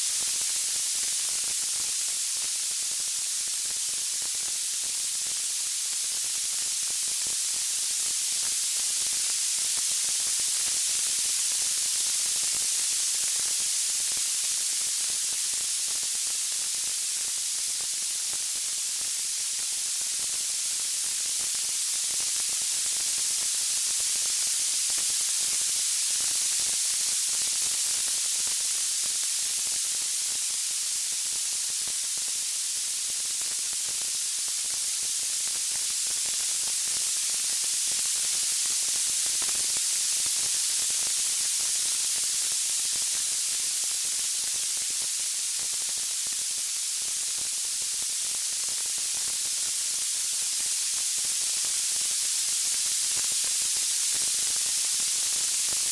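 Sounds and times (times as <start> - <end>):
white noise hiss: 0.0 - 55.9.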